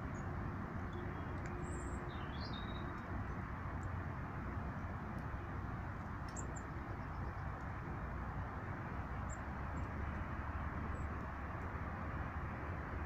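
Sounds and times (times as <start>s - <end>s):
low rushing outdoor noise: 0.0s - 13.0s.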